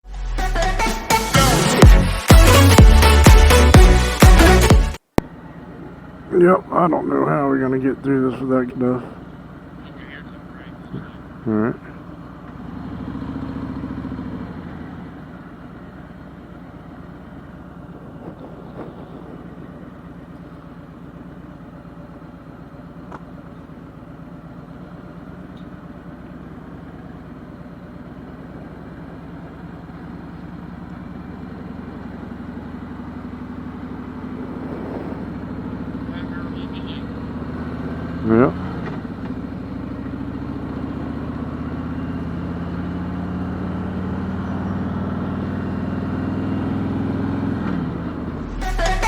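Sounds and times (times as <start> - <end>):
motorcycle engine running: 1.8 - 49.0.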